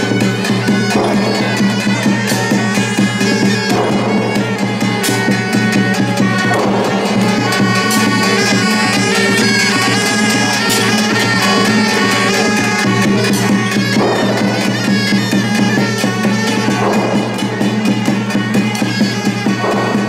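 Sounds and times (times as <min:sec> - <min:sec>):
cymbals: 0:00.0 - 0:20.0
drums: 0:00.0 - 0:20.0
reed wind instrument melody: 0:00.0 - 0:20.0.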